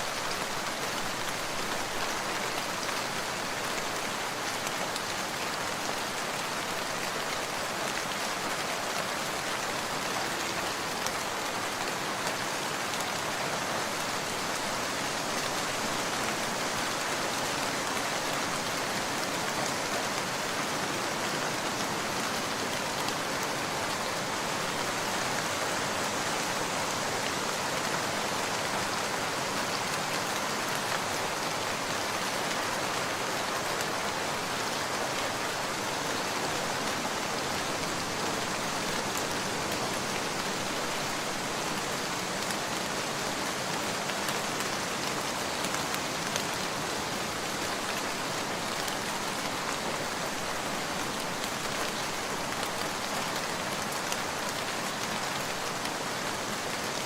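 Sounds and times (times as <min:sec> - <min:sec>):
faint ticks of raindrops: 0:00.0 - 0:57.0
rain falling: 0:00.0 - 0:57.0.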